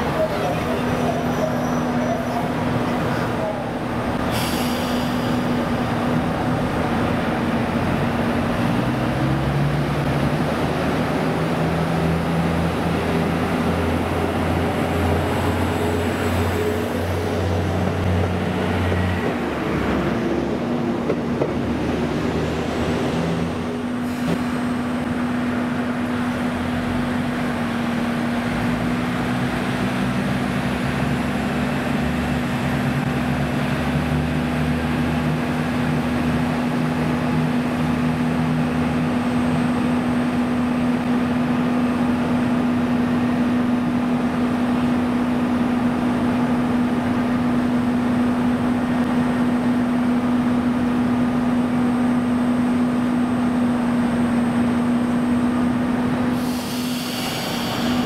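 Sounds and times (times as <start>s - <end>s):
diesel railcar engines humming: 0.0s - 58.0s.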